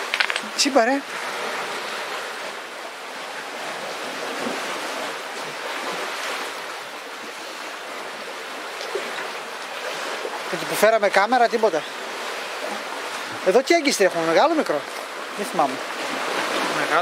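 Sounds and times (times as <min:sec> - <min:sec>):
waves washing against rocks: 0:00.0 - 0:17.0.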